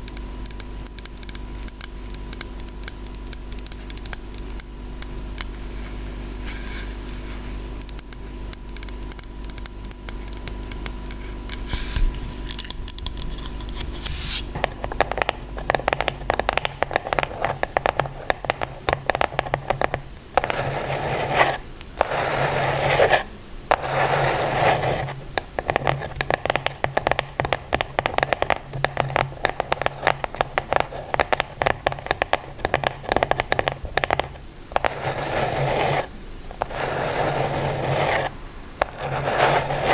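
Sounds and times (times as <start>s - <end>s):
close-miked scratching: 5.4s - 39.9s.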